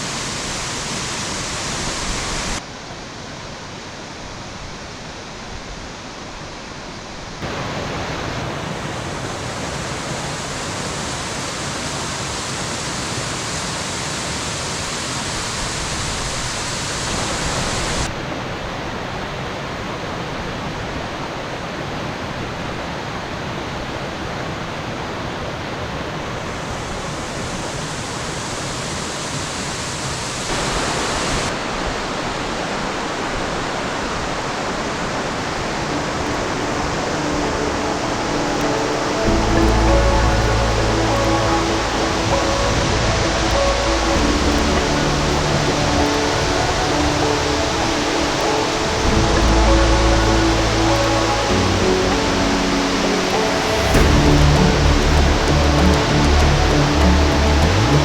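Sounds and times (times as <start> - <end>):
waterfall rushing: 0.0 - 3.0, 6.0 - 58.0.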